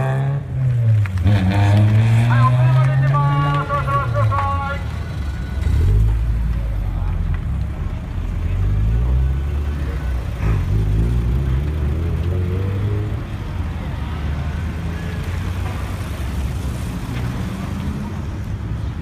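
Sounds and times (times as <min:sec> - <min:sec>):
vehicle engines rumbling past: 0:00.0 - 0:19.0
crowd voices: 0:00.6 - 0:19.0.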